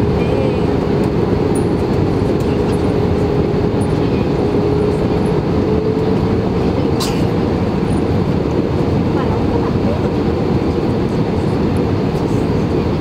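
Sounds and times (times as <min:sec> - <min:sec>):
airplane cabin airflow and engine noise: 0:00.0 - 0:13.0.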